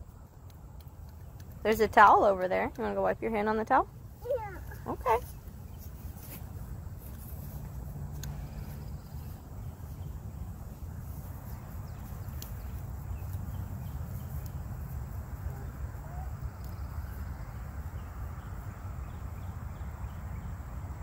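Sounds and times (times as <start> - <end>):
faint outdoor background noise: 0.0 - 21.0.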